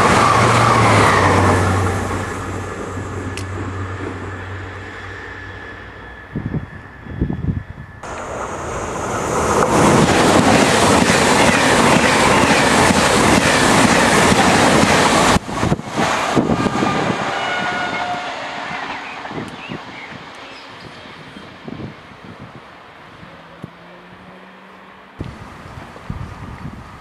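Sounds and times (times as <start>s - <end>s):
high-speed train passing: 0.0s - 27.0s.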